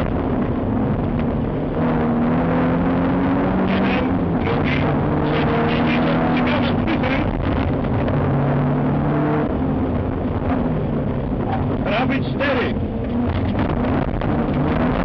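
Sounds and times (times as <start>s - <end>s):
car engine working hard: 0.0s - 15.0s.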